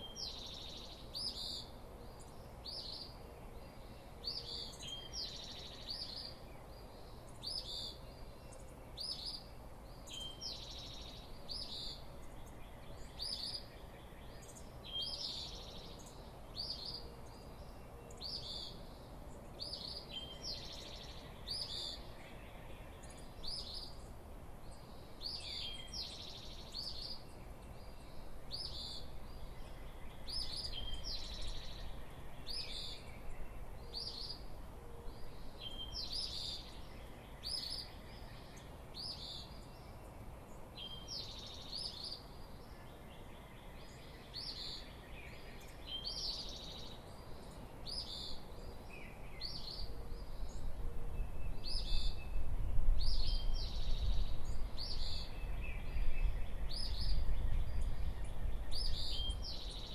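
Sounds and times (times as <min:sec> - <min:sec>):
light breeze rumble: 0:00.0 - 0:59.9
songbird call notes: 0:00.0 - 0:59.9.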